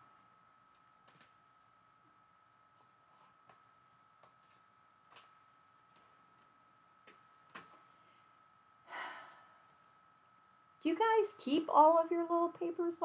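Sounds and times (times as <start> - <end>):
faint steady high whine: 0.0 - 13.0.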